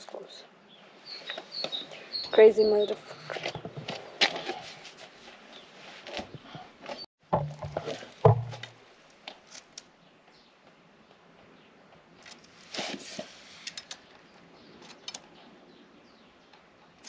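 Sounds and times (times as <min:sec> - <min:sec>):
rustle: 0:00.0 - 0:17.0.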